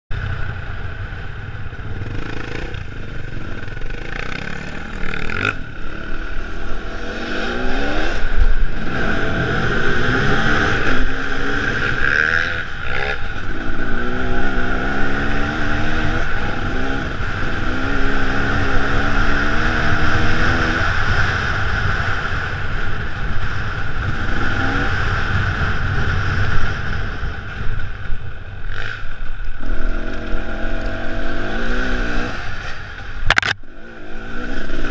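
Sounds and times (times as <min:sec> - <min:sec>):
dirt bike engine revving: 0:01.8 - 0:27.2, 0:28.7 - 0:34.9.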